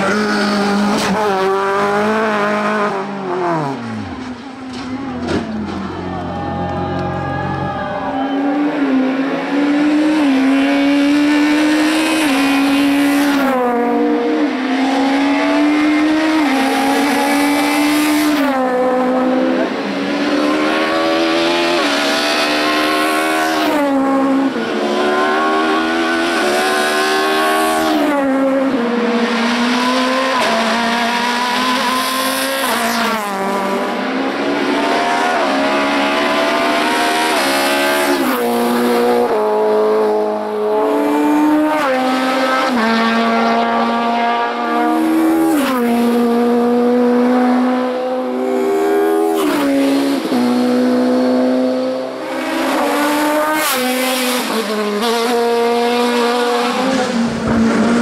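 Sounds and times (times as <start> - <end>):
race car engine revving: 8.4 - 58.0.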